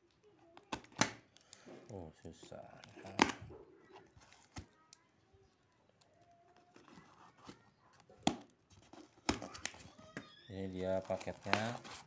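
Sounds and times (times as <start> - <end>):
wrapping rustling: 1.4 - 12.0.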